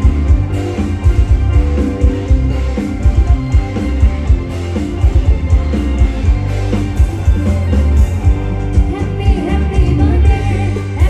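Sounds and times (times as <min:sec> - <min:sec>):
guitar or keyboard line: 0:00.0 - 0:11.0
heavy bass: 0:00.0 - 0:11.0.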